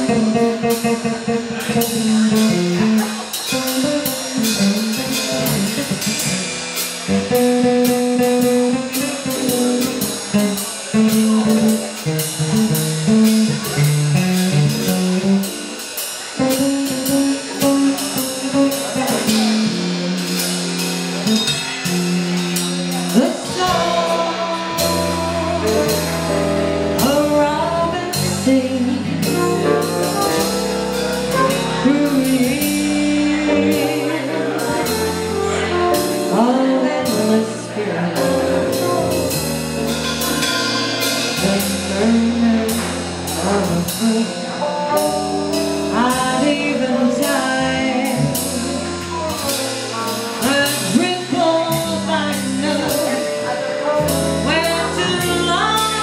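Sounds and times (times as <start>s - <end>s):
drums with cymbal strokes: 0.0s - 56.0s
walking bass: 0.0s - 56.0s.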